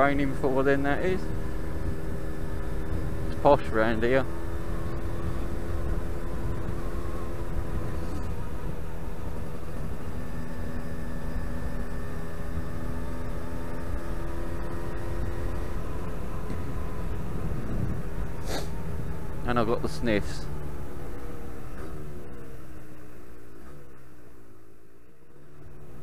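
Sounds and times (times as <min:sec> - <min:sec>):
two-stroke motorcycle engine: 0:00.0 - 0:26.0
wind and road noise rumble: 0:00.0 - 0:26.0.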